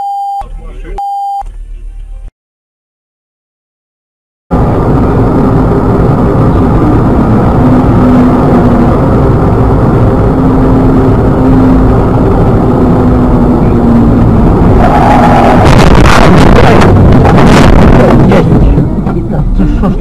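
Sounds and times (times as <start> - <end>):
car engine and road noise: 0.0 - 2.3, 4.5 - 20.0.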